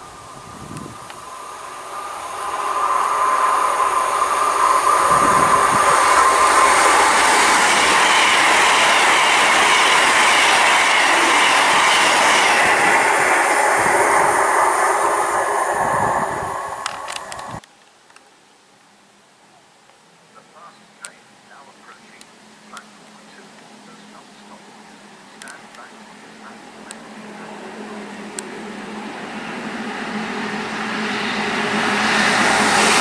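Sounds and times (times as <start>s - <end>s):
train passing on rails: 0.0s - 17.7s, 20.2s - 33.0s.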